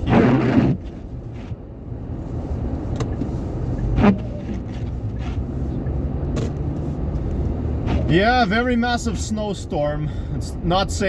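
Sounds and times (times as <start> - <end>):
low rumble of engine and road: 0.0 - 11.0.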